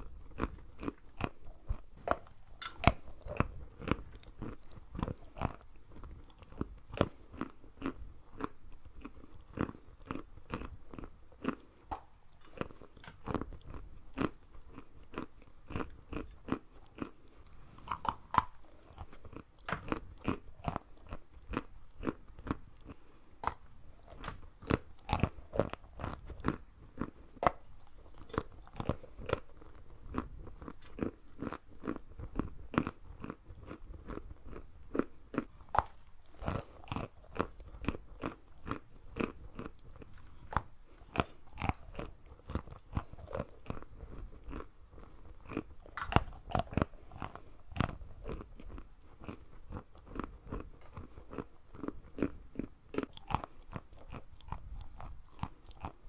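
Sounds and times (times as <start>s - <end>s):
chewing sugar lumps crunching: 0.0s - 56.0s.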